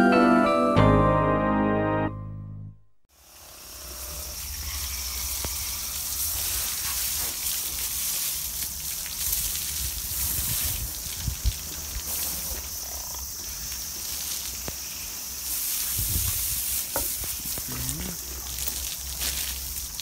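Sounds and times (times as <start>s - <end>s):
water spray hissing: 3.1s - 20.0s.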